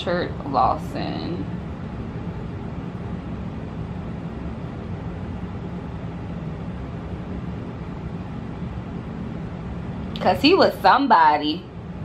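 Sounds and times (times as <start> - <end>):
low droning room noise: 0.0 - 12.0.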